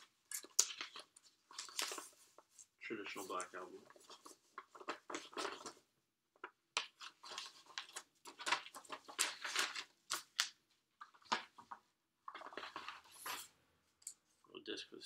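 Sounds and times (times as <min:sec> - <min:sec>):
paper and cardboard rustling: 0:00.0 - 0:05.9, 0:06.8 - 0:13.5.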